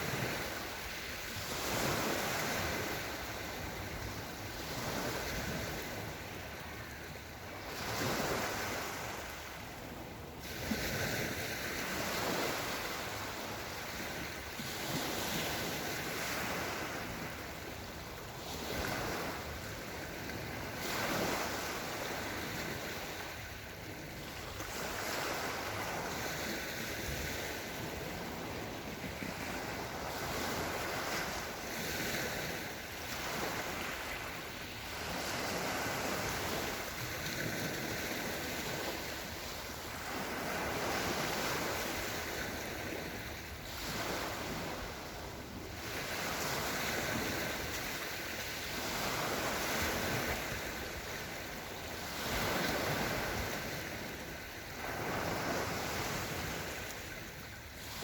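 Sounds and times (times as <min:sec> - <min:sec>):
small waves washing ashore: 0:00.0 - 0:58.0.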